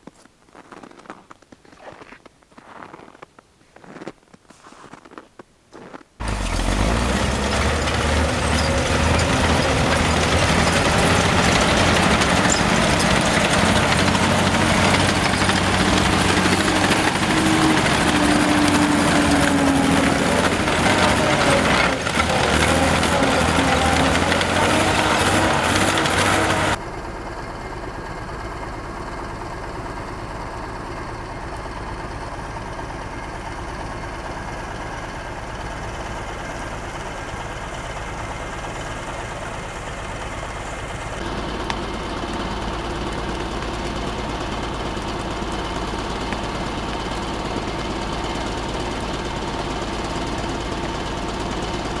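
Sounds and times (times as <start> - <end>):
diesel engine driving away: 5.8 - 52.0.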